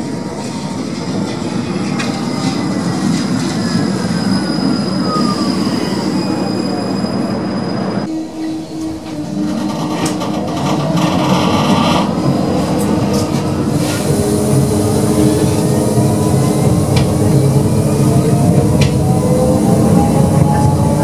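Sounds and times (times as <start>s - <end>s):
tram interior hum: 0.0s - 21.0s
tram running gear rumble: 0.0s - 21.0s
tram wheels squealing on curve: 0.0s - 21.0s.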